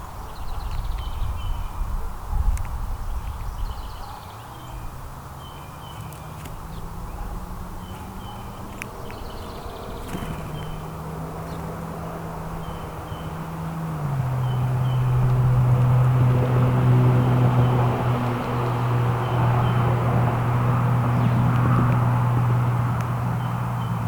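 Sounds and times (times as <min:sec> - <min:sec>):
passing engine hum: 0:00.0 - 0:24.0
songbirds chirping: 0:00.0 - 0:24.0.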